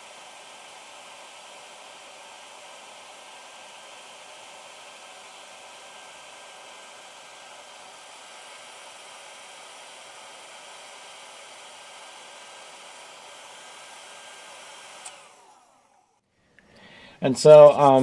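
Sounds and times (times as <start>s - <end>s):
hair dryer blowing: 0.0s - 16.2s.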